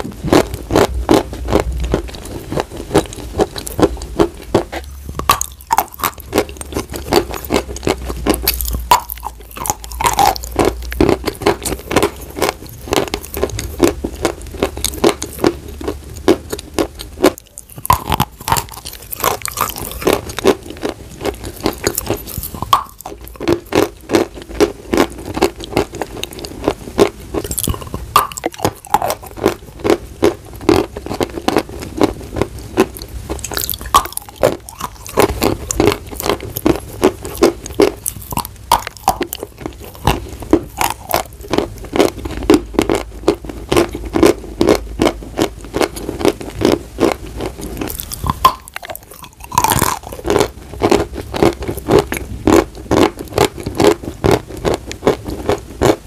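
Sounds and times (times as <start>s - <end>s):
chalk crunching when chewed: 0.0s - 56.0s.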